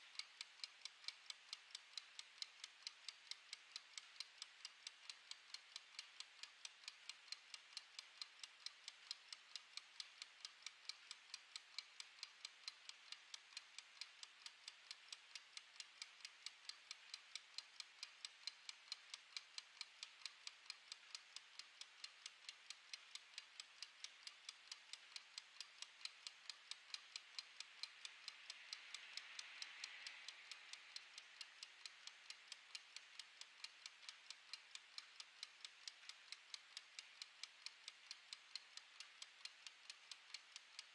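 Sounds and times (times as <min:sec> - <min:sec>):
kitchen timer ticking: 0:00.0 - 0:40.9
soft hiss: 0:00.0 - 0:40.9.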